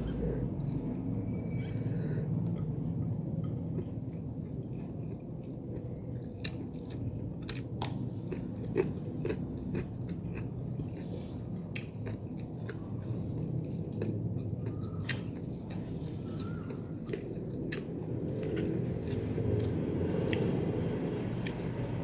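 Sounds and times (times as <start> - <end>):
steady low hum: 0.0 - 22.0
person chewing food: 2.3 - 22.0.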